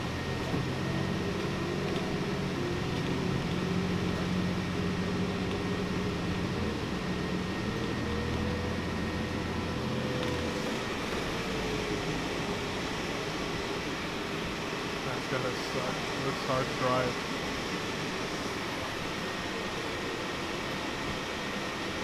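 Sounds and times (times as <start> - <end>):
bus engine running: 0.0 - 22.0
drivetrain whine: 0.0 - 22.0.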